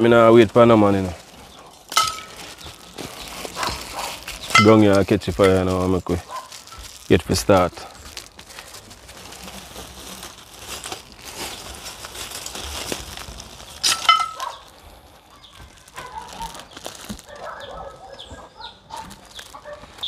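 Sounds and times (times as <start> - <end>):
rustling and crumpling: 0.0 - 20.0.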